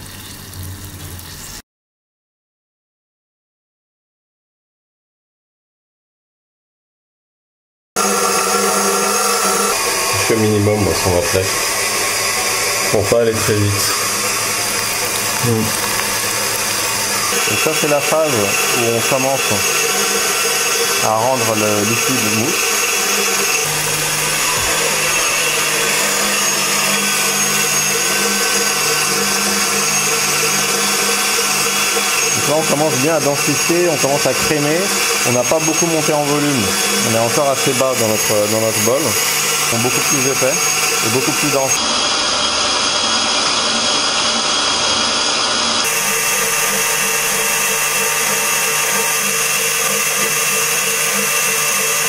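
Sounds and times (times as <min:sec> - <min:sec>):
whisk beating in steel bowl: 0:08.0 - 0:42.0, 0:42.6 - 0:52.0
stand mixer motor running: 0:08.0 - 0:52.0.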